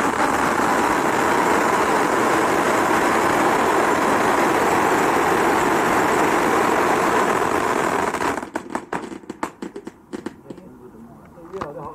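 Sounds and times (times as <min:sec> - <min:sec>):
firework fountain hissing: 0:00.0 - 0:10.5
firework crackles and pops: 0:00.0 - 0:10.7.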